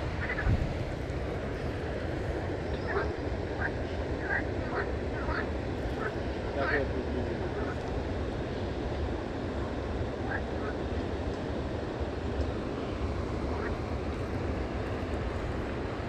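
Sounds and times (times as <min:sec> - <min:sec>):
flowing water: 0:00.0 - 0:16.0.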